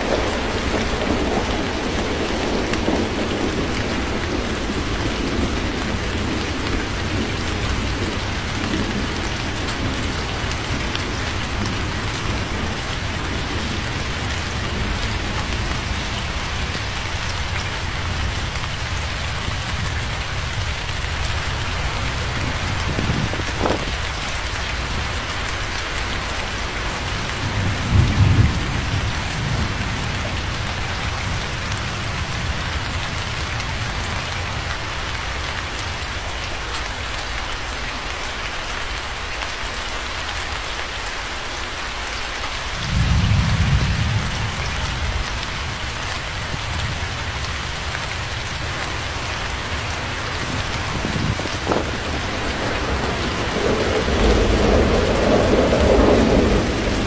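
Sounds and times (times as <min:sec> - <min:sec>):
thunder rumbling: 0:00.0 - 0:36.3, 0:42.7 - 0:57.0
heavy rain pouring: 0:00.0 - 0:57.0.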